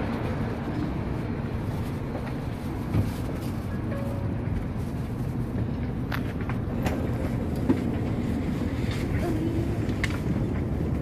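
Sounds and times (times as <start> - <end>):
train carriage interior rumble: 0.0 - 11.0.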